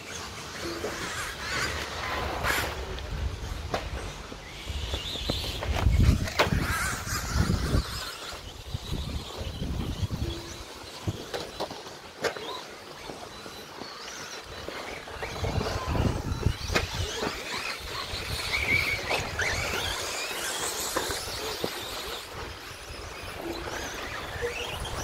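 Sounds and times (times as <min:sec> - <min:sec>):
rc truck motors whining: 0:00.0 - 0:25.0.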